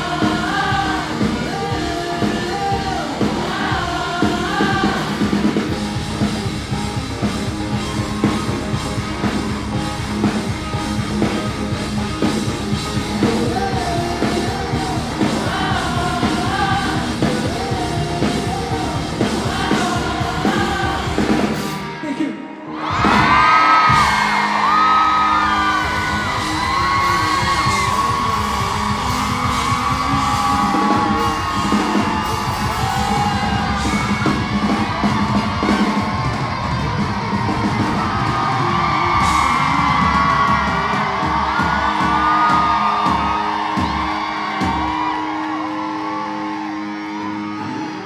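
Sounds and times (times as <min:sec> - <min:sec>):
audience yelling and whooping: 0:00.0 - 0:22.0, 0:22.6 - 0:48.0
live rock band playing: 0:00.0 - 0:22.0, 0:22.8 - 0:48.0.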